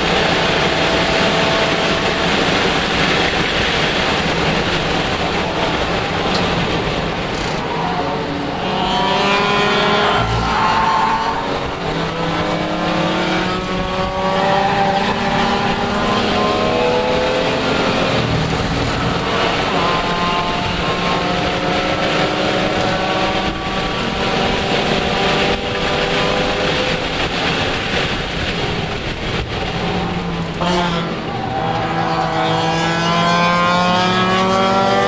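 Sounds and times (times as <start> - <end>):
race car engine accelerating: 0.0 - 35.0
wind and road noise: 0.0 - 35.0.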